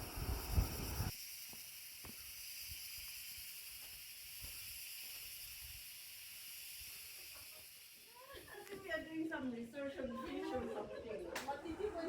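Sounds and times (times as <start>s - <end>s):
steady high hiss: 0.0s - 9.8s.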